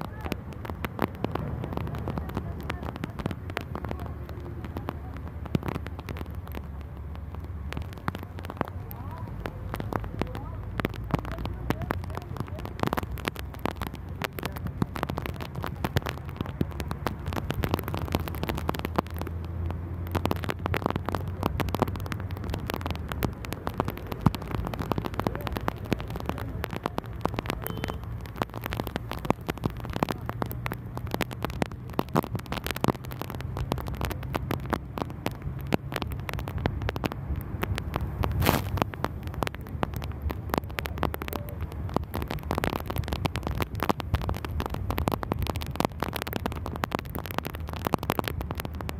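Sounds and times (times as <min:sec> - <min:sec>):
heavy rain on window glass: 0:00.0 - 0:48.9.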